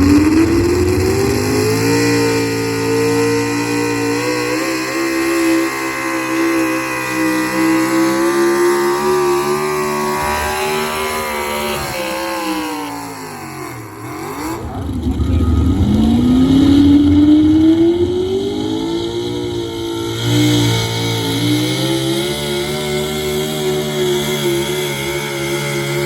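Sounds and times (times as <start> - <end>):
truck engine running at high revs: 0.0 - 26.0.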